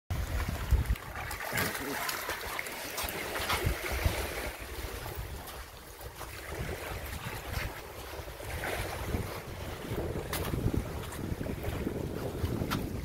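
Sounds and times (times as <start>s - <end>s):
wind buffeting microphone: 0.1s - 1.9s, 2.8s - 13.0s
small waves washing onto sand: 0.1s - 13.0s.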